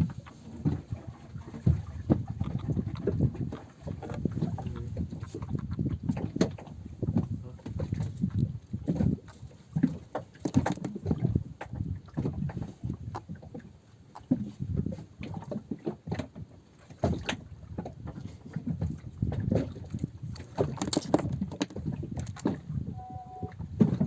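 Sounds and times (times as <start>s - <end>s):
knocks and slaps on a boat: 0.0s - 24.0s
water slapping against hull: 0.0s - 24.0s.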